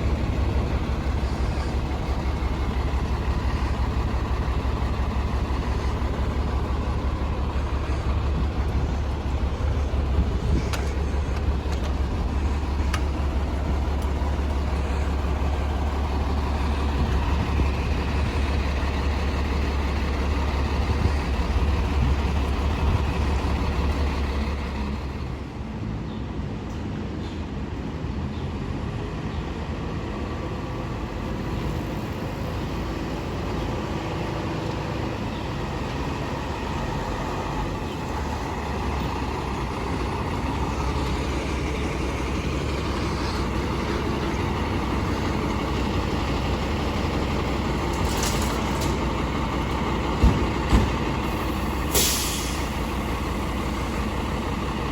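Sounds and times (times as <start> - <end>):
diesel engine low rumble: 0.0 - 54.9.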